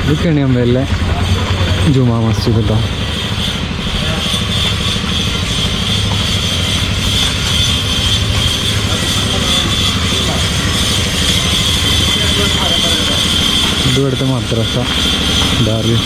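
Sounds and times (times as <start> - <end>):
high-pitched hum: 0.0 - 16.0
vehicle engine running: 0.0 - 16.0.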